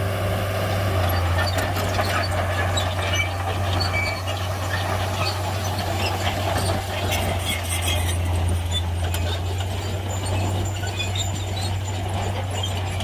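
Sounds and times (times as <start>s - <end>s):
bulldozer diesel engine drone: 0.0s - 13.0s
short high squeaks: 1.1s - 13.0s.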